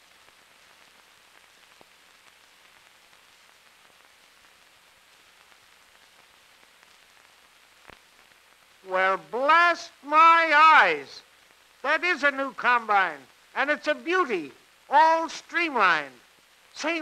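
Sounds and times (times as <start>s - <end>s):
faint crackles: 0.0s - 17.0s
film soundtrack hiss: 0.0s - 17.0s.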